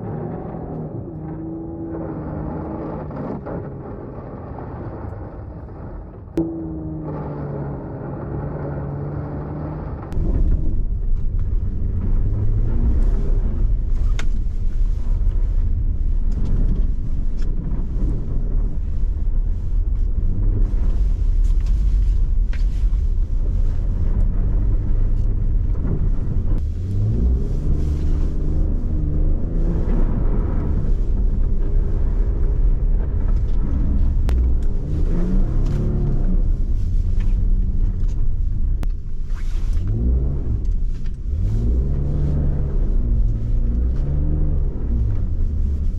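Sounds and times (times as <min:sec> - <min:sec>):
car engine rumble: 0:00.0 - 0:45.9
road noise: 0:00.0 - 0:45.9.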